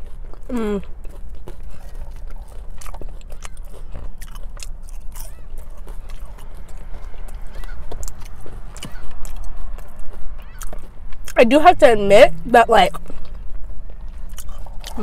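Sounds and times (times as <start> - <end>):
chewing fries crunching: 0.0 - 15.0.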